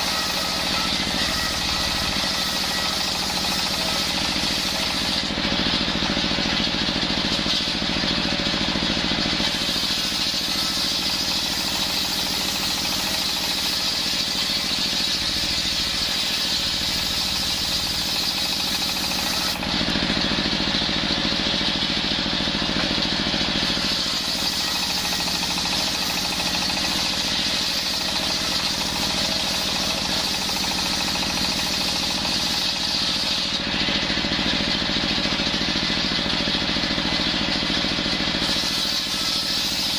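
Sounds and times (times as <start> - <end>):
saw blade cutting wood: 0.0 - 39.9
table saw running: 0.0 - 39.9.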